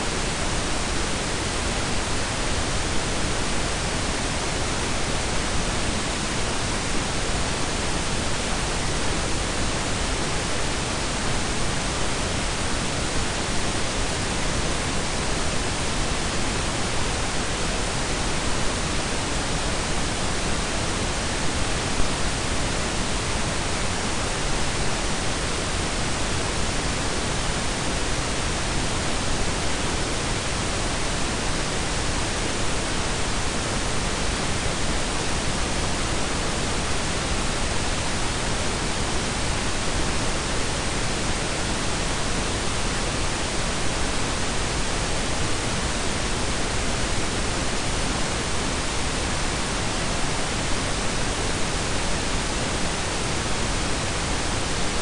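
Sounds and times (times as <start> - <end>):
steady noise hiss: 0.0 - 55.0.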